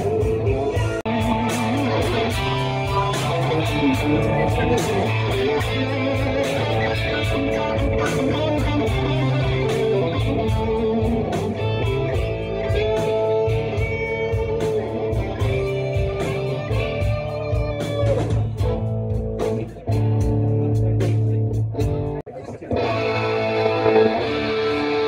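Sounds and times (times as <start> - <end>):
bass and drum beat: 0.0 - 25.0
electric guitar lead notes: 0.0 - 25.0.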